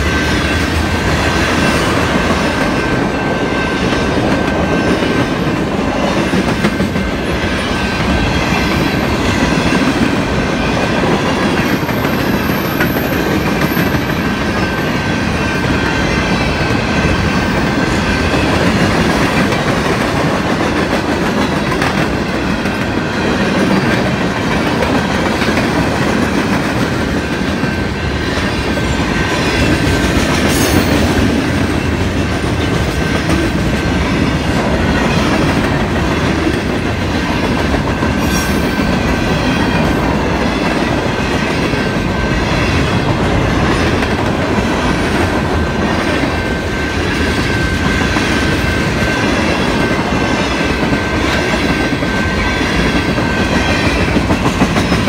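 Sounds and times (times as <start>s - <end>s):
freight train cars rolling: 0.0s - 55.0s.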